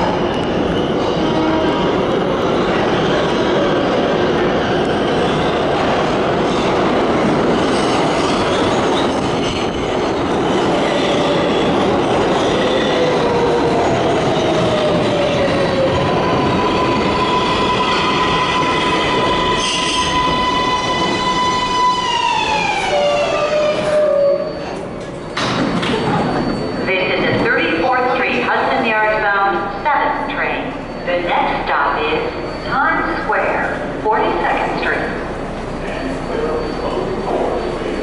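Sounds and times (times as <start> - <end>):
train high whine: 0.0 - 38.0
train wheels rumbling on rail: 0.0 - 38.0.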